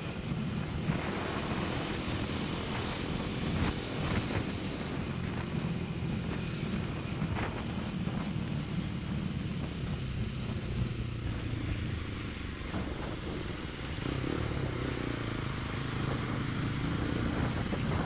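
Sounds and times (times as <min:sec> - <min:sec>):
motorcycle engine cruising: 0:00.0 - 0:18.0
road and wind noise: 0:00.0 - 0:18.0.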